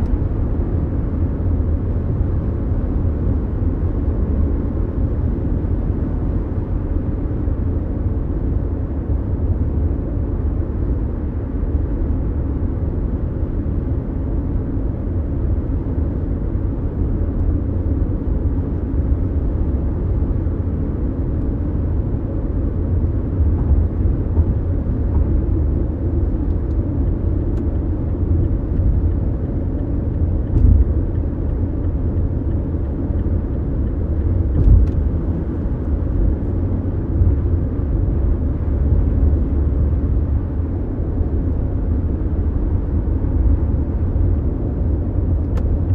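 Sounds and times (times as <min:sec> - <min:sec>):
car cabin road rumble: 0:00.0 - 0:45.9.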